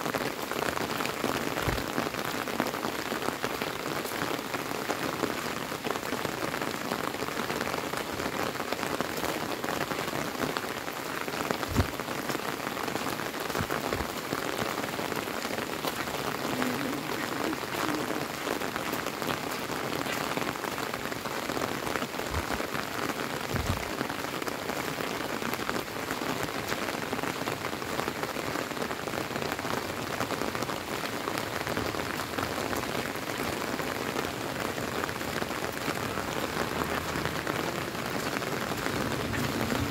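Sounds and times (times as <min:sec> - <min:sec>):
rain falling on gravel: 0:00.0 - 0:39.9.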